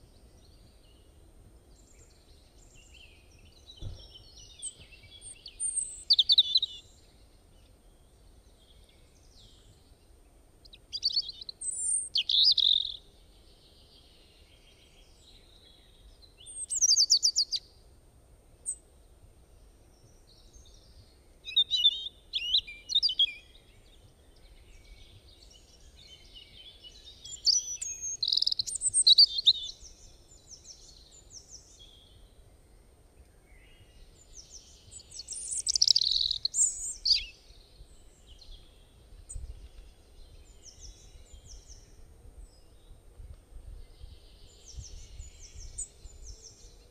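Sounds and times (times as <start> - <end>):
songbird chirping and trilling: 0.0 - 17.8, 18.6 - 46.9.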